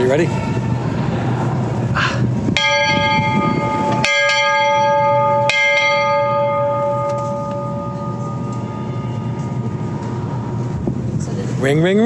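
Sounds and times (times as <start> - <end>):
locomotive bell ringing: 0.0 - 12.0.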